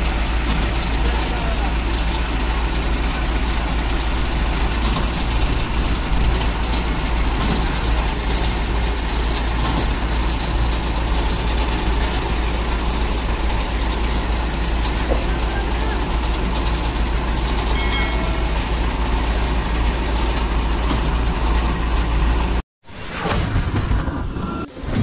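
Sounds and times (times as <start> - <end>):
diesel engine running: 0.0 - 22.6.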